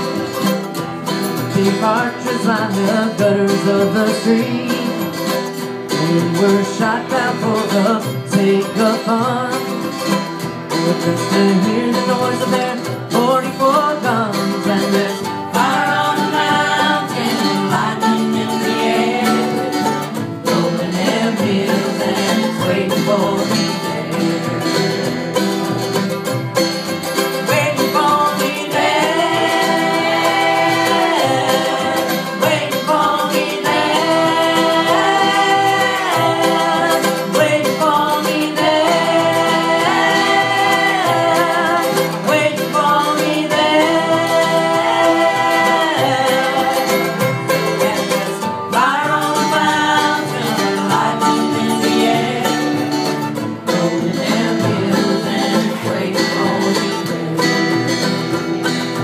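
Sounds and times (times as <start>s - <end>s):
country band playing: 0.0s - 59.0s.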